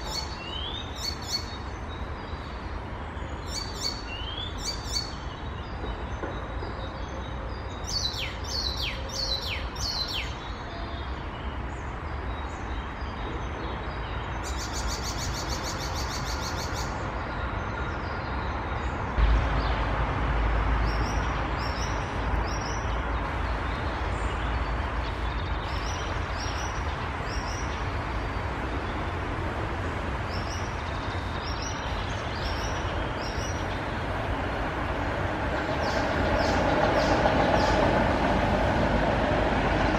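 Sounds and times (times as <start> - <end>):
warbler singing: 0.0 - 19.8, 20.8 - 29.2, 30.2 - 39.9.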